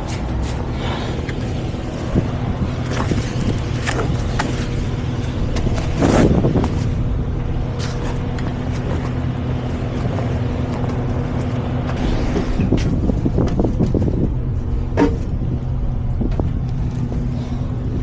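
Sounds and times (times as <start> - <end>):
diesel truck engine idling: 0.2 - 18.0.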